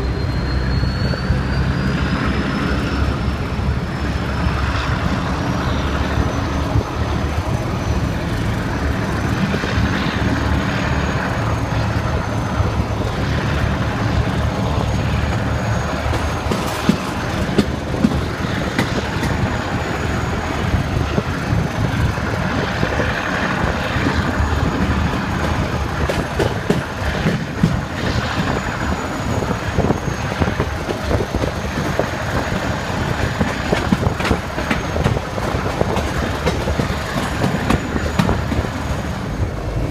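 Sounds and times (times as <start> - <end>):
locomotive engine humming: 0.0 - 39.9
train wheels clattering on track: 0.0 - 39.9.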